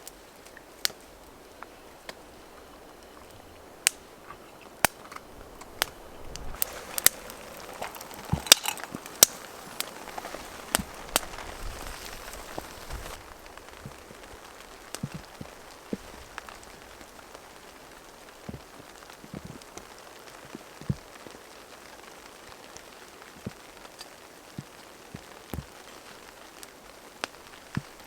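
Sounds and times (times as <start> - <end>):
heavier raindrops tapping: 0.0 - 28.0
light rain hiss: 0.0 - 28.0.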